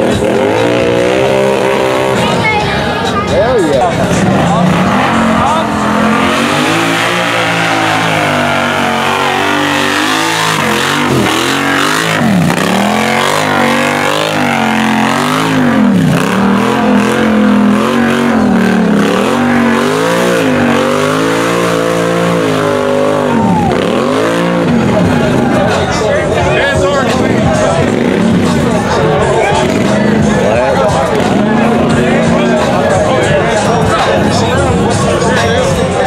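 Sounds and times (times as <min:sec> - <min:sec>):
atv engine revving: 0:00.0 - 0:35.8.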